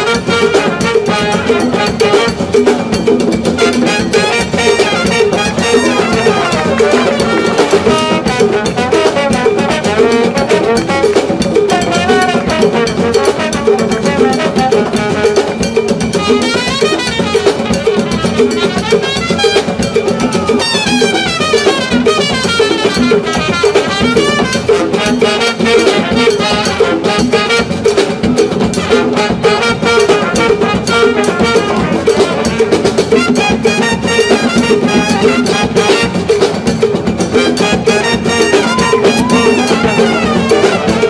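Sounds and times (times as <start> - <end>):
trumpet and trombone runs: 0.0 - 2.8, 3.6 - 36.6, 37.3 - 41.0
congas and drums: 0.0 - 41.0
live dance band music: 0.0 - 41.0.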